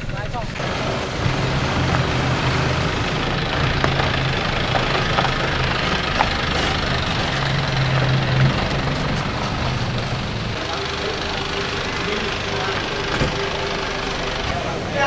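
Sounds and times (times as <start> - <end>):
truck engine driving by: 0.0 - 15.0.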